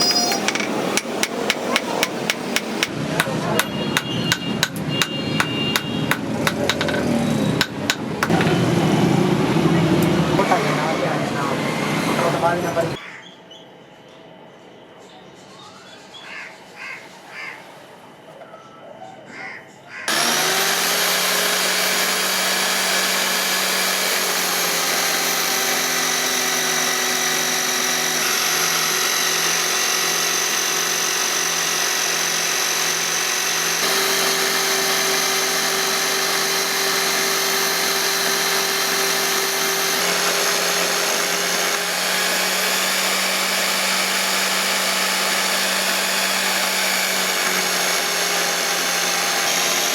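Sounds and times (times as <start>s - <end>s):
electric power tool running: 0.0s - 13.0s, 20.1s - 49.9s.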